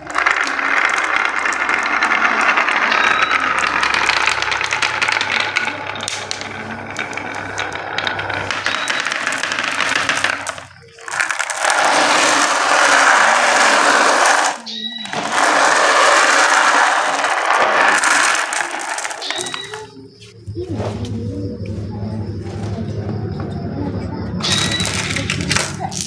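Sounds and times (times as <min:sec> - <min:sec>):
marbles rattling in plastic tray: 0:00.0 - 0:19.9, 0:24.4 - 0:26.0.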